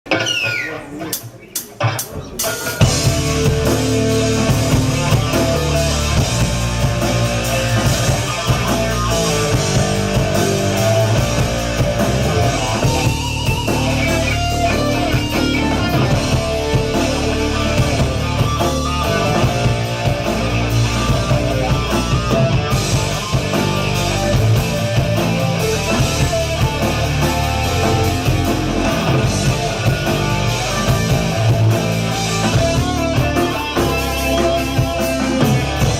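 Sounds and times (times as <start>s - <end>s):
drum kit: 0.1s - 35.9s
electric guitar: 0.1s - 35.9s.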